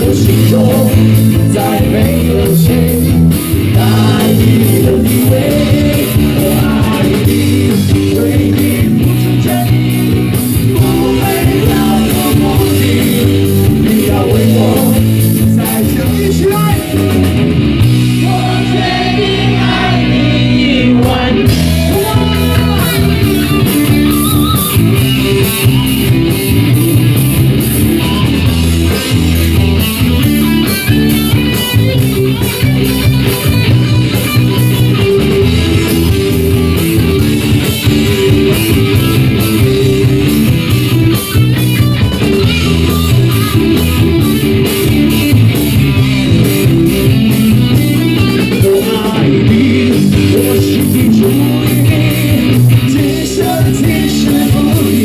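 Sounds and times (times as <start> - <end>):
bass guitar: 0.0 - 55.0
electric guitars: 0.0 - 55.0
steady drum beat: 0.0 - 55.0.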